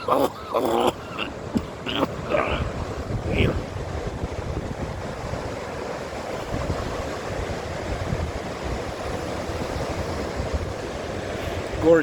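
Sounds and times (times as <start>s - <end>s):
ocean surf washing: 0.0s - 12.0s
wind buffeting microphone: 0.8s - 12.0s.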